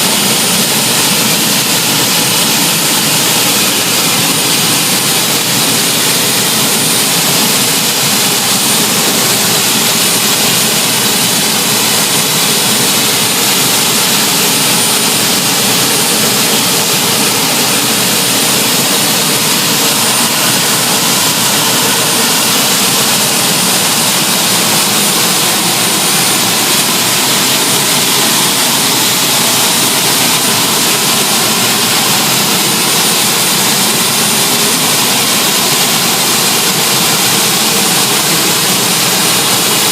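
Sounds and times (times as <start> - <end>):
gas turbine engines running: 0.0 - 39.9.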